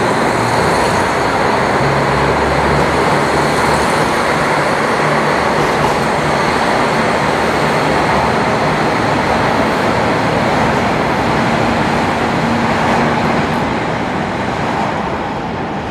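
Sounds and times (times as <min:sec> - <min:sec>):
train rumbling: 0:00.0 - 0:15.9.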